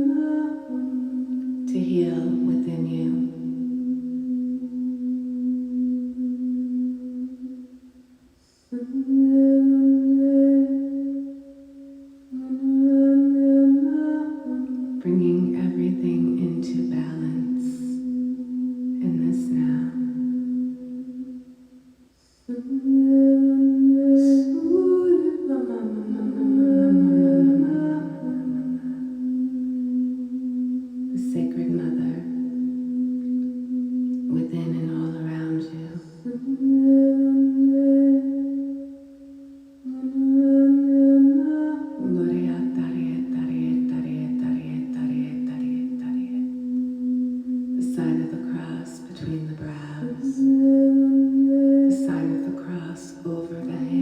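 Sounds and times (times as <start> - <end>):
low drone with overtones: 0.0 - 8.1, 8.7 - 21.9, 22.5 - 54.0
woman singing long held notes: 0.0 - 54.0.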